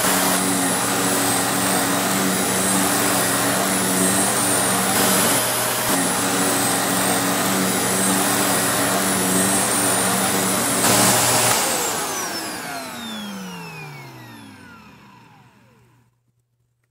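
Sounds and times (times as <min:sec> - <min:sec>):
vacuum cleaner running: 0:00.0 - 0:16.1
vacuum motor winding down: 0:00.0 - 0:16.1.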